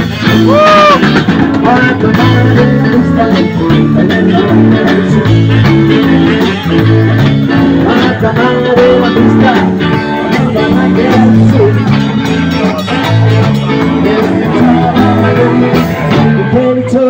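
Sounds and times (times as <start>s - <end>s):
drums beat: 0.0s - 16.6s
electric bass line: 0.0s - 17.0s
sliding guitar notes: 0.0s - 17.0s.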